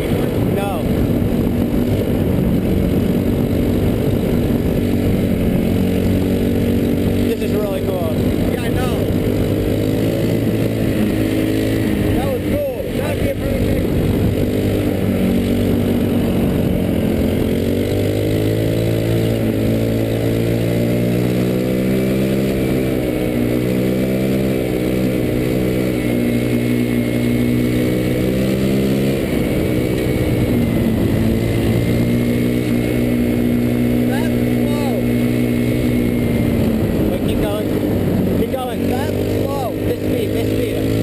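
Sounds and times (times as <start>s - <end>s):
go-kart engine running: 0.0s - 41.0s.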